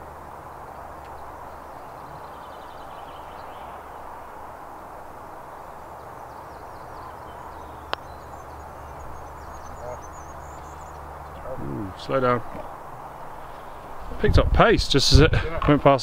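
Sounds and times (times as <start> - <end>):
faint bird calls: 0.0 - 14.2.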